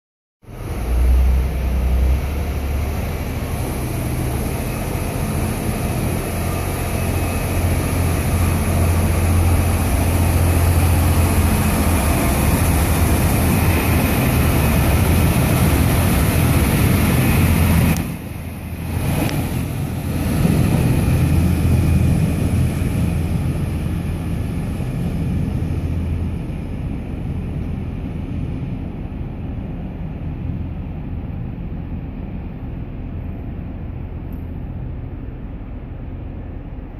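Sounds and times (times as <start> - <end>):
diesel train engines droning: 0.4 - 36.9.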